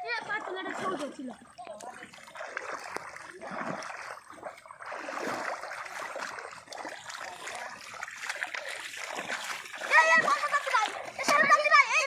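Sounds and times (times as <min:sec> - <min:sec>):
shallow water sloshing and splashing: 0:00.0 - 0:12.0.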